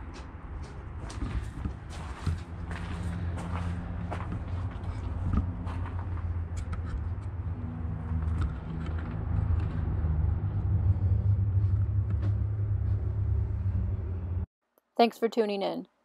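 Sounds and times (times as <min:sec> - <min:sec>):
low mechanical hum: 0:00.0 - 0:14.5.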